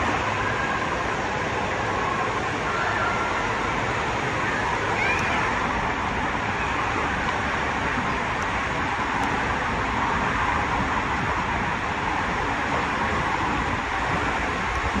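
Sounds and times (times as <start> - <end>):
water rushing in waterslide tube: 0.0 - 15.0.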